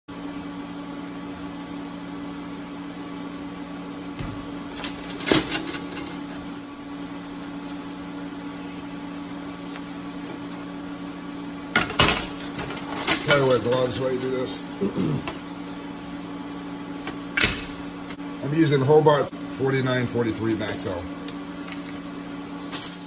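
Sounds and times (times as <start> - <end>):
machine hum: 0.1 - 23.0.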